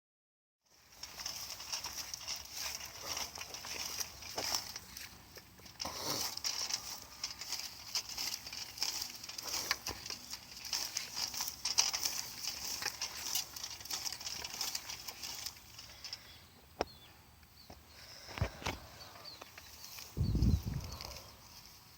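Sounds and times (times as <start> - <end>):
hand tool scraping through soil: 0.7 - 16.4, 19.3 - 21.9.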